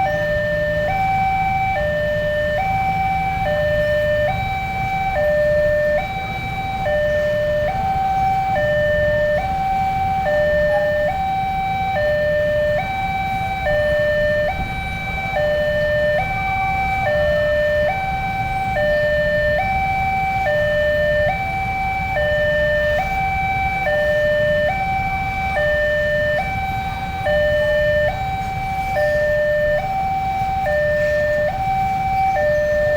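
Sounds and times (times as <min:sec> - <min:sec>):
low train rumble: 0:00.0 - 0:32.9.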